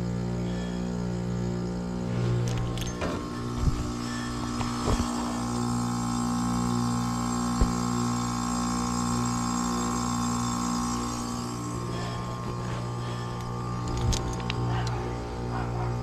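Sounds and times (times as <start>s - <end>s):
heat pump compressor and fan hum: 0.0s - 16.0s.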